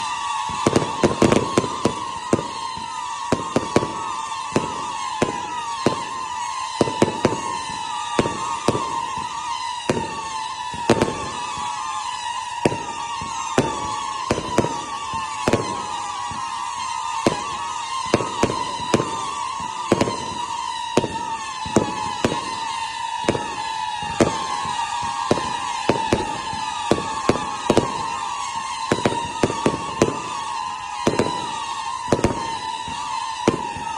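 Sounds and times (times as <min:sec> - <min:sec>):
continuous high whistling: 0:00.0 - 0:33.9
fireworks bangs: 0:00.0 - 0:33.9.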